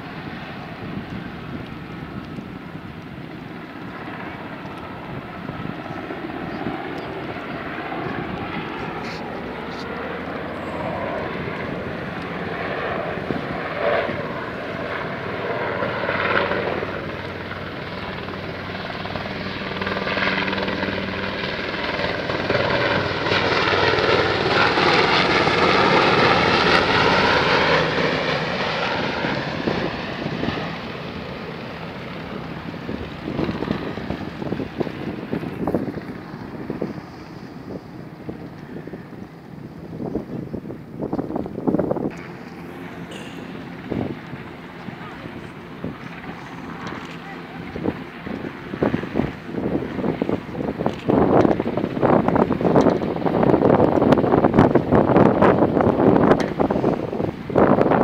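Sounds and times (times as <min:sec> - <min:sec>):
helicopter flying over: 0:00.0 - 0:58.0.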